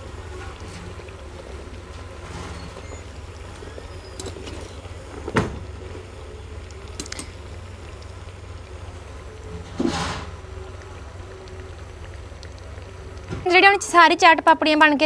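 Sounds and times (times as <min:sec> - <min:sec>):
frying in hot oil: 0:00.0 - 0:15.0.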